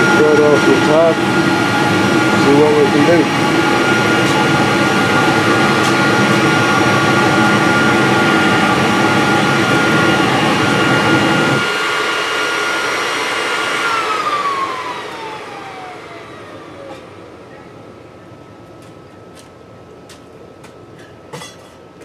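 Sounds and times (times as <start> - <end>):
blower whine: 0.0 - 19.7
furnace burner roar: 0.0 - 21.7.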